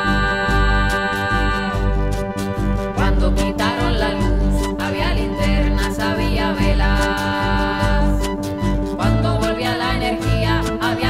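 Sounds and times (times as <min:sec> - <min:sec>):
bass notes: 0:00.0 - 0:11.0.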